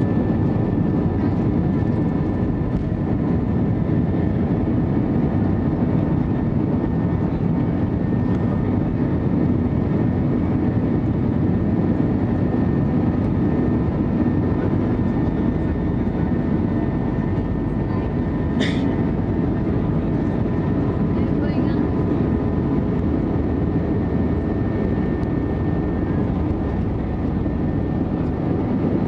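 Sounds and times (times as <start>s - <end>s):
jet engines from cabin: 0.0s - 29.0s.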